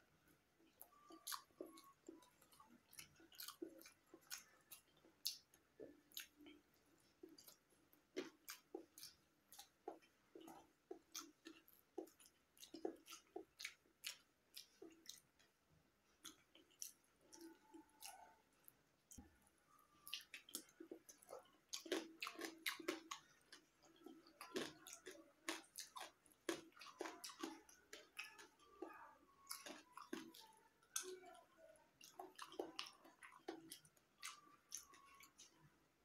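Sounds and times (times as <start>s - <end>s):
person chewing with lip smacks: 0.7s - 35.7s.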